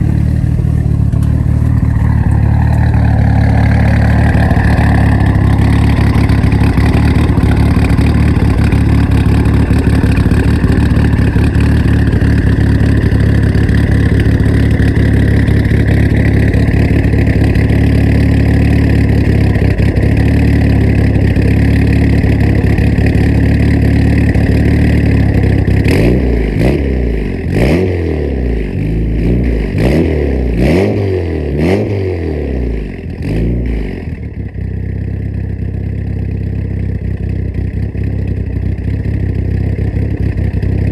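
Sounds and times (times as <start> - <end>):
car engine idling: 0.0 - 27.6, 34.0 - 40.9
engine revving: 0.0 - 34.2.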